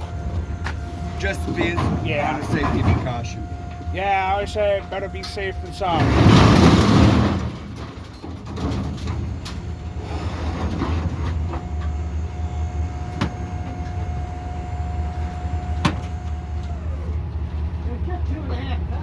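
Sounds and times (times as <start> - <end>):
thin steady whine: 0.0 - 6.4, 9.1 - 19.0
vehicle engine idling: 0.0 - 19.0.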